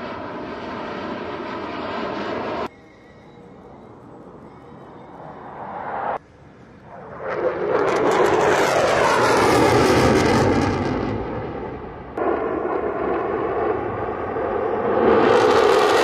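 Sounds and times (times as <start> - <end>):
fighter jet flyby: 0.0 - 2.8, 5.2 - 16.0.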